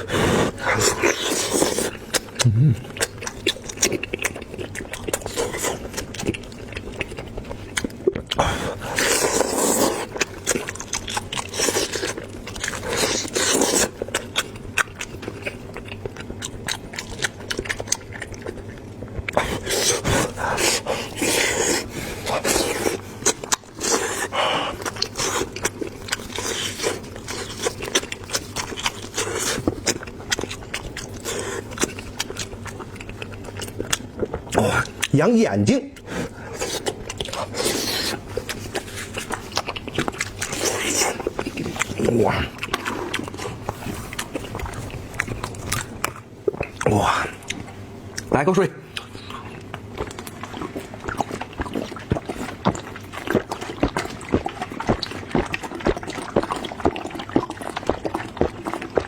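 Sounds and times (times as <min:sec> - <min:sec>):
person chewing meat: 0:00.0 - 0:59.0.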